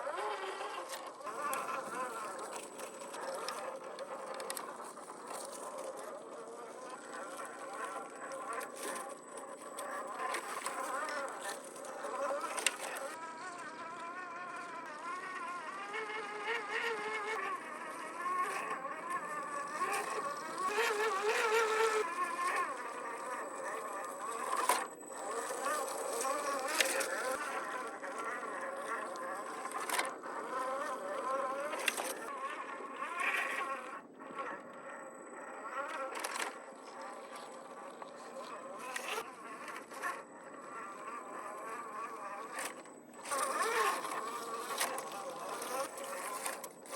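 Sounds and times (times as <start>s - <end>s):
electric motor and gears whining: 0.0s - 46.9s.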